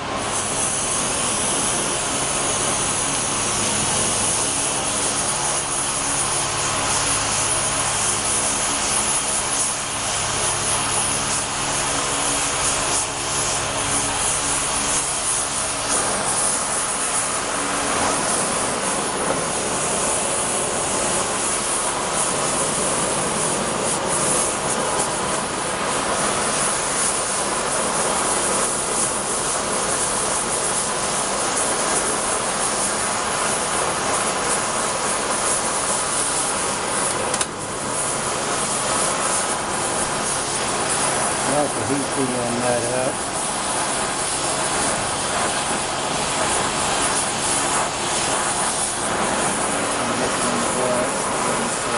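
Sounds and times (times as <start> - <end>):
gas burner flame hissing: 0.0 - 51.9.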